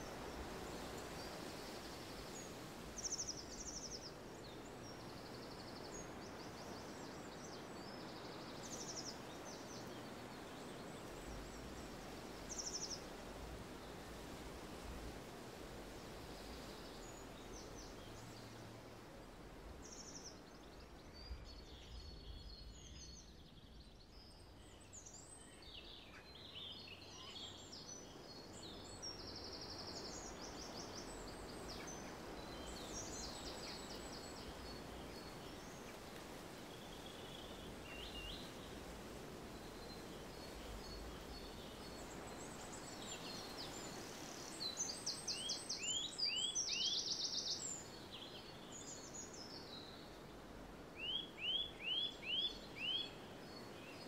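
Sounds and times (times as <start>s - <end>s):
low background noise: 0.0s - 54.0s
songbirds chirping and trilling: 0.0s - 54.0s.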